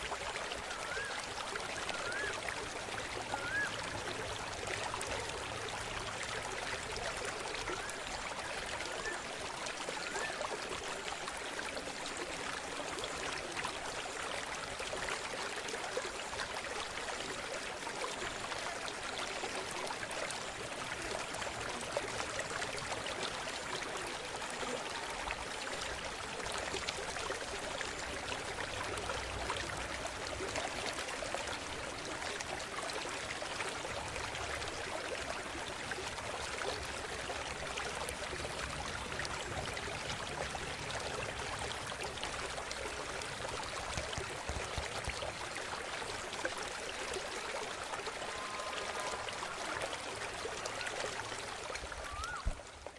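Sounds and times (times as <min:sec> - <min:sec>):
stream water running: 0:00.0 - 0:52.9.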